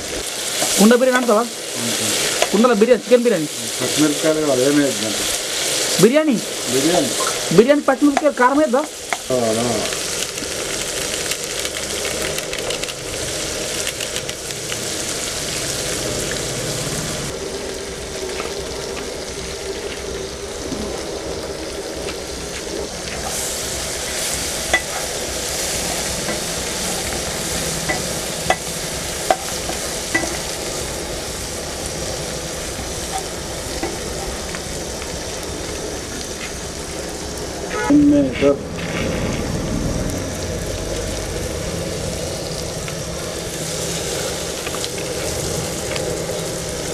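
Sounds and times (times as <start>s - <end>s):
vegetables sizzling in hot oil: 0.0s - 46.9s.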